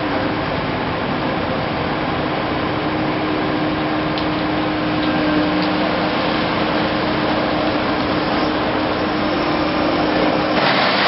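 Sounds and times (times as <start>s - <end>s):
diesel engines droning: 0.0s - 11.0s.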